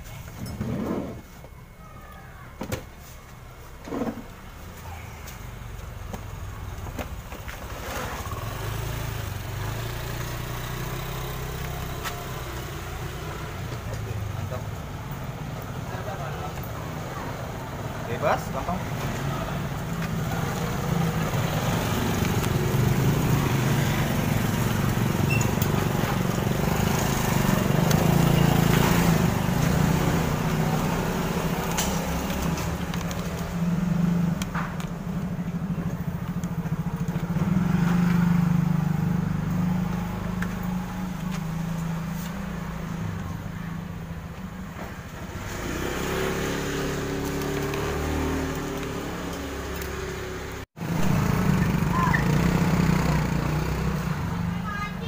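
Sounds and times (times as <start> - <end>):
engine humming: 2.8 - 55.0.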